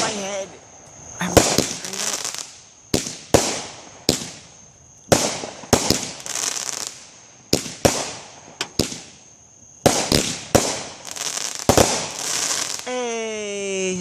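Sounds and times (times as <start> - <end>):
fireworks bangs with crackling: 1.2 - 12.9.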